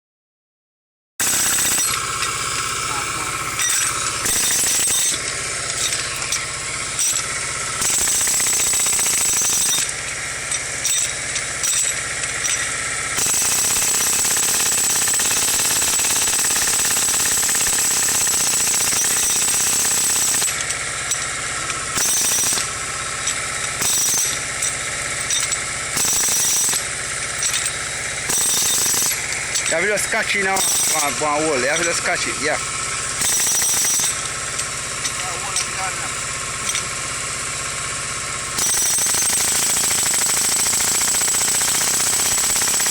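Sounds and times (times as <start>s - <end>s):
jackhammer hammering: 1.2s - 42.9s.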